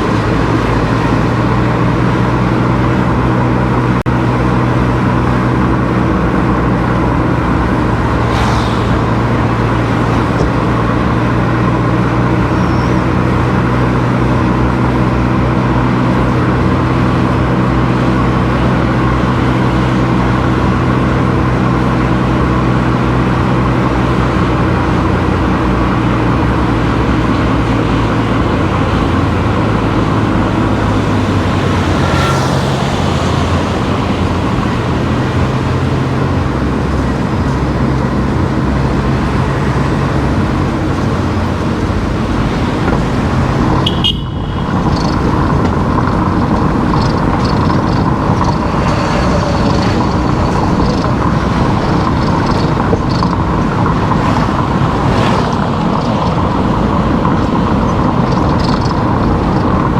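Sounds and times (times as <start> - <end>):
car engine and tyre drone: 0.0 - 59.9
vehicles whooshing past: 0.0 - 59.9.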